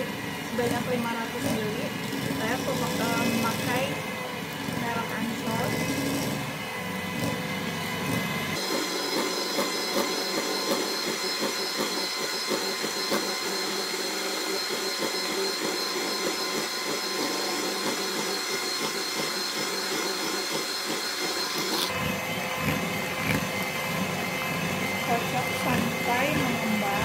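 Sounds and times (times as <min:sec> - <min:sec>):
electric hand mixer whining: 0:00.0 - 0:27.0.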